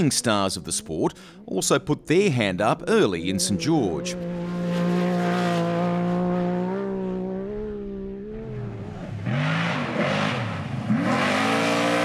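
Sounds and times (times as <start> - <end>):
race car engine revving: 1.4 - 12.0.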